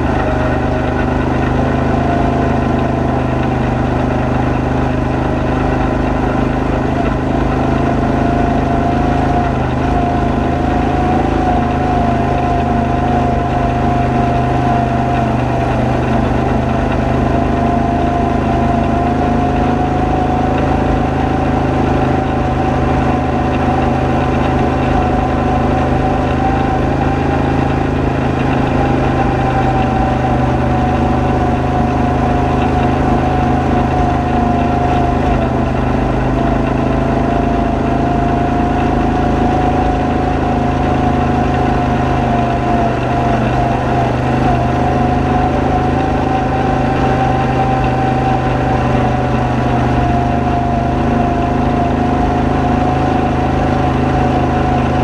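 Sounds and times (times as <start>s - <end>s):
atv engine running: 0.0s - 55.0s
high whine: 0.0s - 55.0s.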